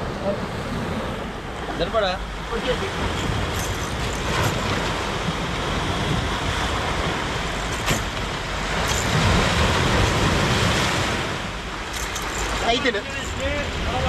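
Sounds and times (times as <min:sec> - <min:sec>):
surf breaking on rocks: 0:00.0 - 0:14.0
wind rumbling on microphone: 0:00.0 - 0:14.0.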